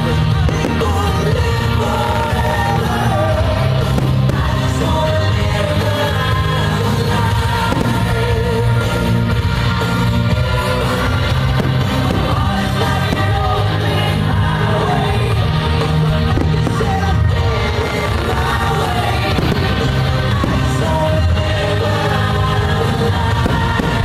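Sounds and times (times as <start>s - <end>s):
rock music with singing: 0.0s - 24.0s.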